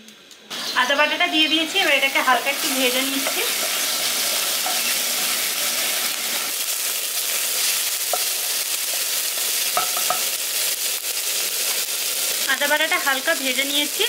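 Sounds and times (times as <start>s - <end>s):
paste sizzling in hot oil: 0.5s - 14.0s.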